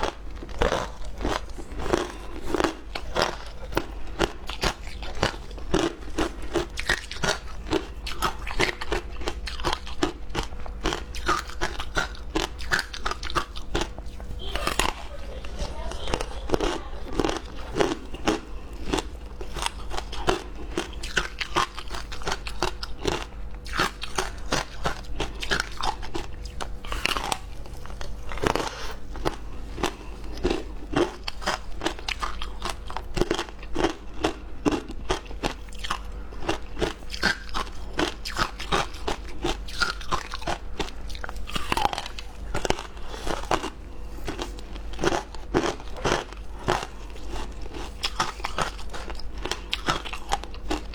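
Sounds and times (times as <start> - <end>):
crunching ice being chewed: 0.0 - 50.9.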